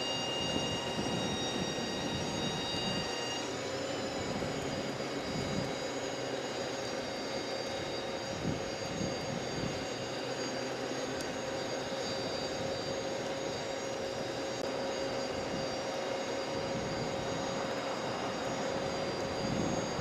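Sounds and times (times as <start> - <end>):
mid-pitched whine: 0.0 - 20.0
truck engine and hydraulics running: 0.0 - 20.0.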